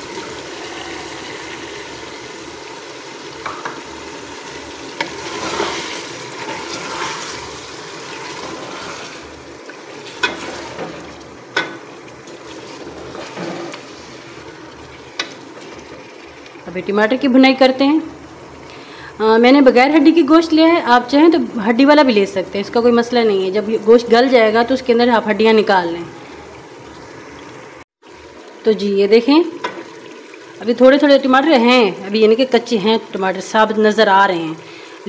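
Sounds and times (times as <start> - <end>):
meat sizzling in a pot: 0.0 - 18.7, 20.8 - 35.0.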